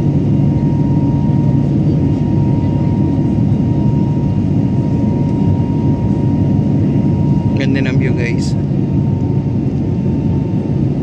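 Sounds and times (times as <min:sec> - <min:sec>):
jet engine and airflow roar: 0:00.0 - 0:11.0
thin steady whine: 0:00.0 - 0:11.0.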